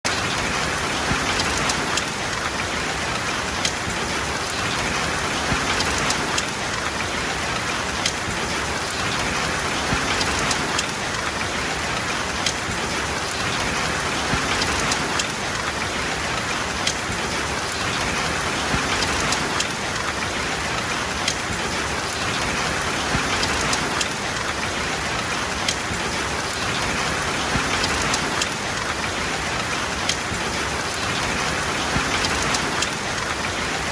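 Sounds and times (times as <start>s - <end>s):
heavy rain: 0.1s - 33.9s.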